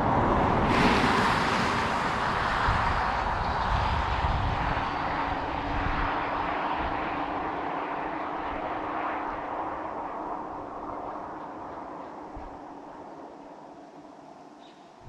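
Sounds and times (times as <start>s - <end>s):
car tyre and road noise: 0.0s - 15.0s.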